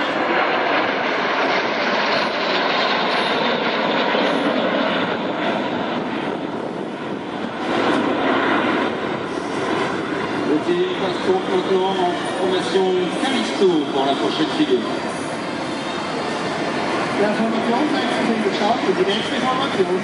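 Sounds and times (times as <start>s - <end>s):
jet aircraft passing by: 0.0s - 20.0s.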